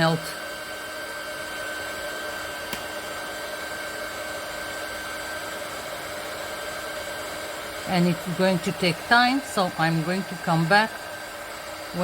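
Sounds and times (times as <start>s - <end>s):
heat gun hissing and whining: 0.0s - 12.0s.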